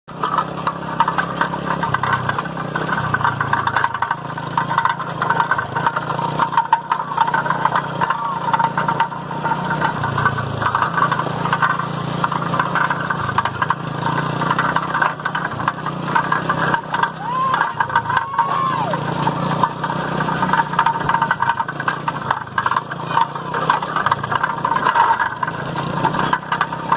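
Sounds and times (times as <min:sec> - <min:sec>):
small motor running: 0:00.1 - 0:26.9.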